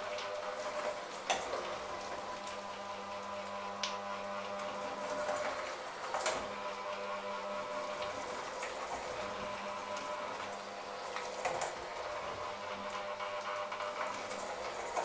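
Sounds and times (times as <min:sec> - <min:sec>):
electric hand mixer running: 0:00.0 - 0:15.0.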